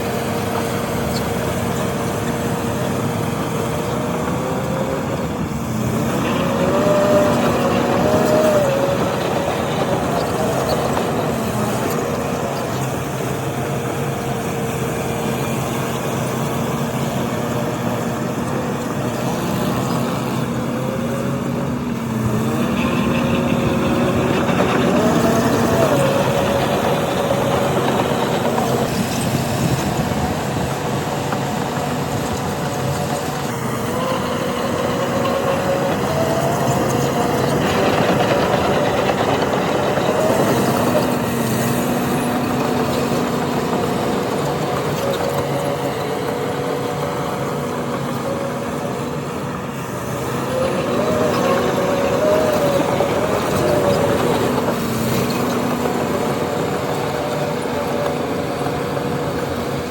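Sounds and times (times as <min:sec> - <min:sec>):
diesel machinery engine: 0:00.0 - 0:59.9.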